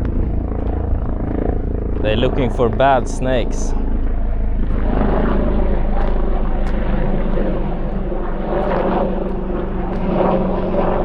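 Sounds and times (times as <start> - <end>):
helicopter drone: 0.0 - 11.0.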